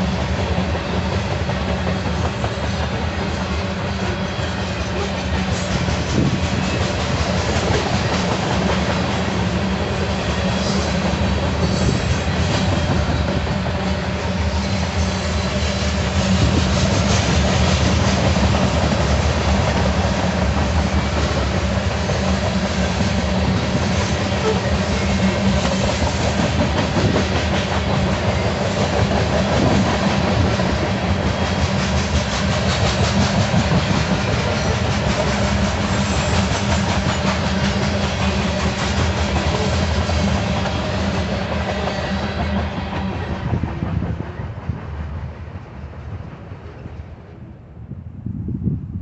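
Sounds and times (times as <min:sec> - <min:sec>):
freight train wheels rumbling on rails: 0:00.0 - 0:49.0.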